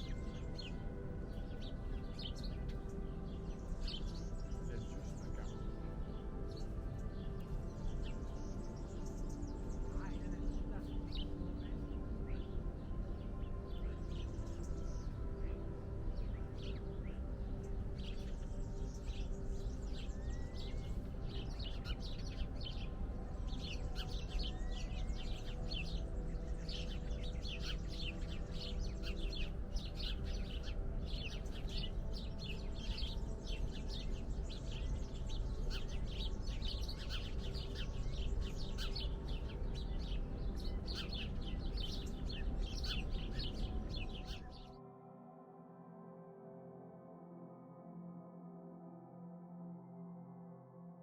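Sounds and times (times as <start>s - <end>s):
small birds chirping: 0.0s - 44.7s.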